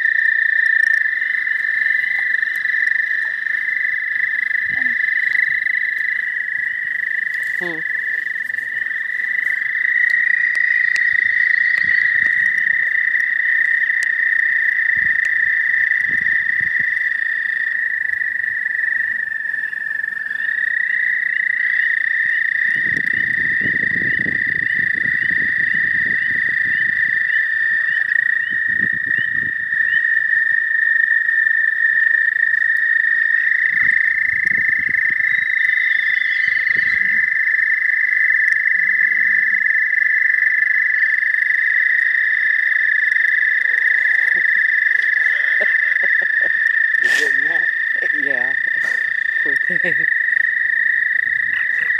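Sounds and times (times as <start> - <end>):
toads trilling: 0.0 - 51.9.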